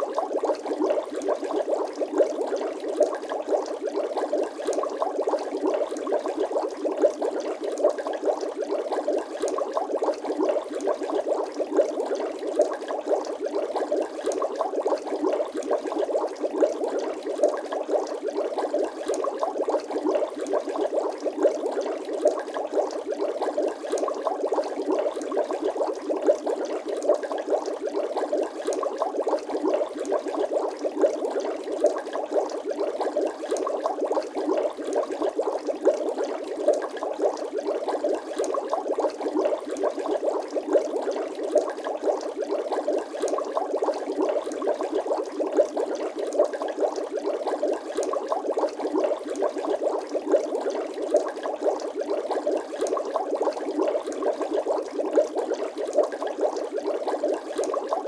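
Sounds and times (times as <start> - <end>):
water bubbling: 0.0 - 58.0.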